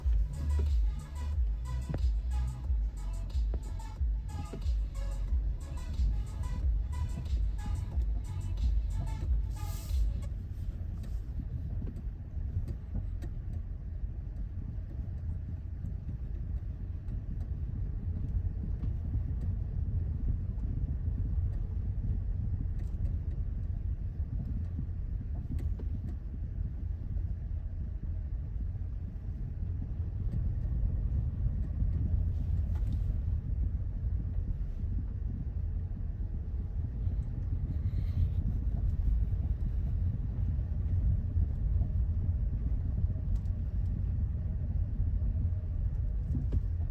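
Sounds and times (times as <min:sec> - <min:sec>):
road and tyre rumble: 0:00.0 - 0:46.9.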